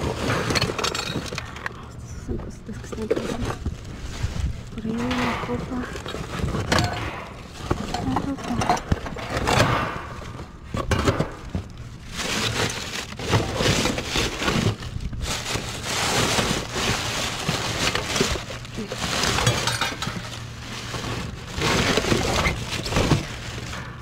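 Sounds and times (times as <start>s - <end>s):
plastic and paper rustling: 0.0s - 24.0s.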